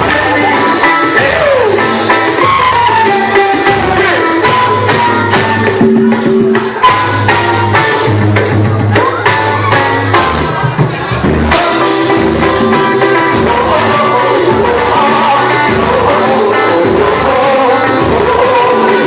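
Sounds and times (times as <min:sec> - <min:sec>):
person singing: 0:00.0 - 0:08.1, 0:08.9 - 0:19.0
samba band playing: 0:00.0 - 0:19.0.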